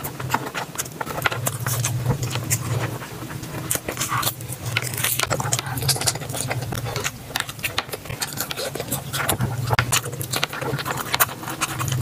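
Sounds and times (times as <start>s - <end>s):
chewing with mouth clicks: 0.0s - 12.0s
steady low hum: 0.0s - 12.0s.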